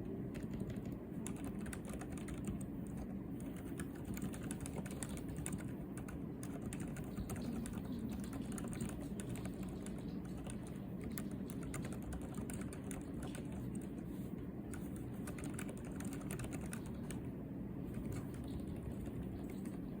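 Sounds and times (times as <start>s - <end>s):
fast mechanical keyboard typing: 0.3s - 14.0s, 14.7s - 17.2s, 17.9s - 19.9s.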